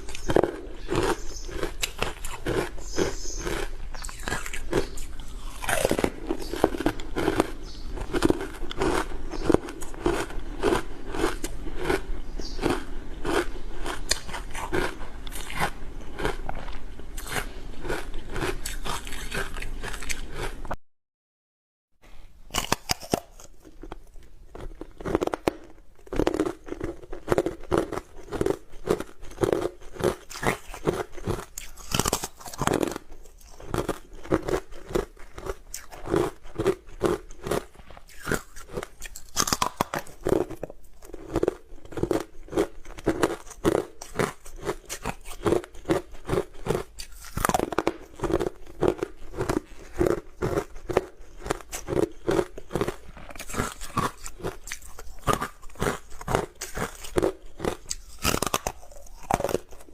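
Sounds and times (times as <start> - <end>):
crunching and chewing ice: 0.0 - 20.8, 22.4 - 59.9.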